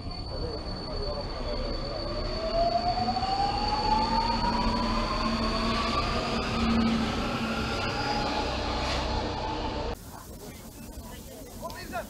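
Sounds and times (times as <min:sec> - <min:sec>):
traction motors whining: 0:00.0 - 0:10.0
wheels rumbling on rail: 0:00.0 - 0:10.2
steady high whine: 0:00.0 - 0:11.0.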